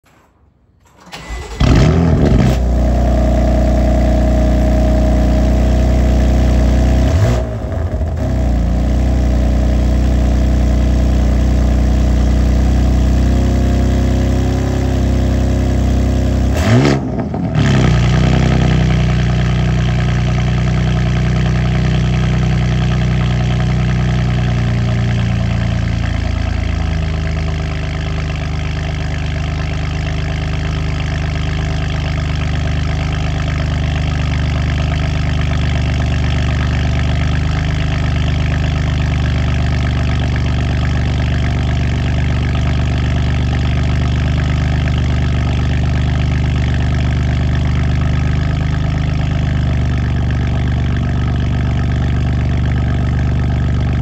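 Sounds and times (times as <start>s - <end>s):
car engine cold start and idle: 0.0s - 54.0s.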